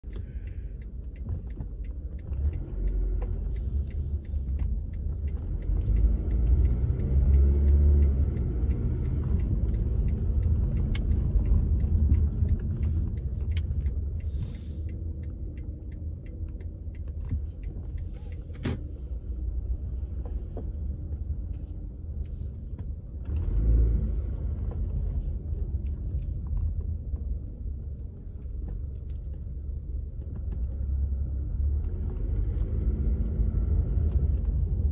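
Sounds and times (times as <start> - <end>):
car engine and tyres rumble: 0.0 - 34.9.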